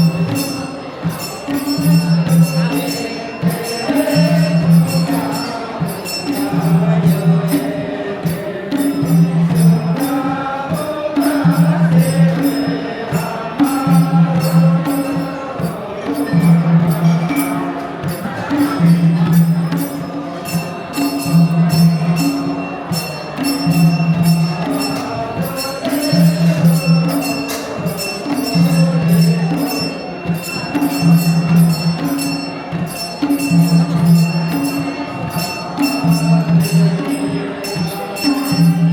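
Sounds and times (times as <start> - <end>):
jingling percussion: 0.0 - 38.9.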